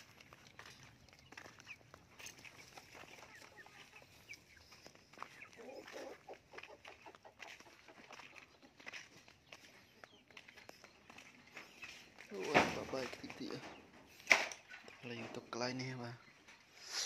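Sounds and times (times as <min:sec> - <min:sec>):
chicken clucking faintly: 0:00.0 - 0:13.8.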